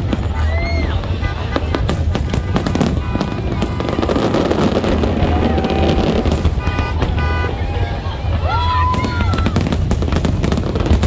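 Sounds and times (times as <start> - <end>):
fireworks bangs: 0.0 - 11.0
fireworks crackle: 0.0 - 11.0.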